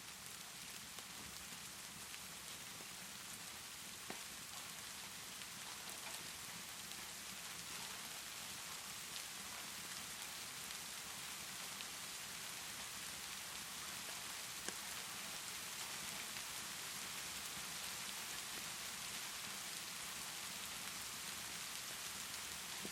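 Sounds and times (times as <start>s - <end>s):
log fire crackles: 0.0s - 22.9s
steady rainfall: 0.0s - 22.9s.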